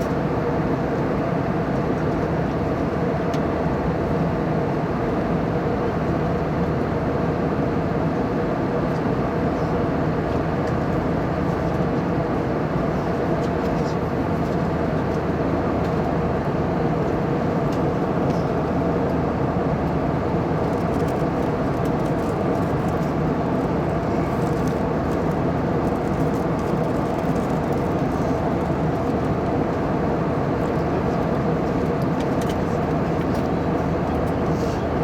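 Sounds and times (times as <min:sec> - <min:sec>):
airliner jet engines droning: 0:00.0 - 0:35.0.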